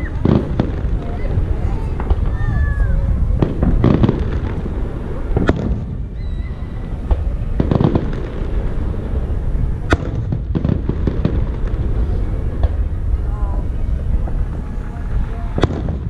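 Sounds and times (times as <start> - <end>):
crackling firework shells: 0.0 - 16.0
firework bangs: 0.0 - 16.0
low rumble: 0.0 - 16.0.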